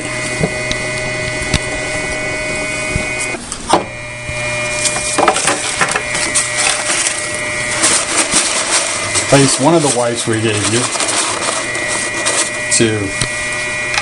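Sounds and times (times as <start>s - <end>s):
electrical hum with high whine: 0.0s - 14.0s.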